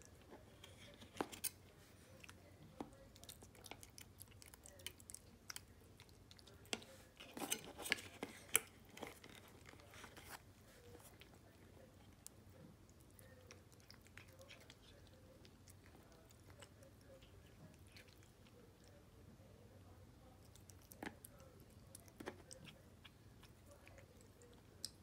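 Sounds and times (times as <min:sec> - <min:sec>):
cat chewing and licking food: 0:00.0 - 0:25.0.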